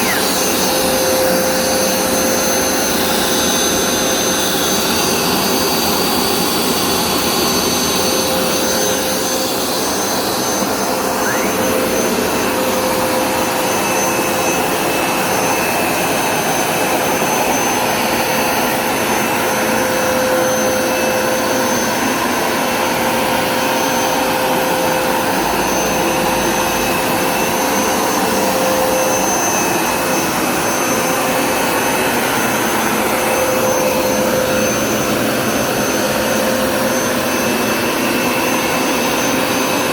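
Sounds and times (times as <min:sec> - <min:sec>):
carpet cleaner running: 0:00.0 - 0:39.9.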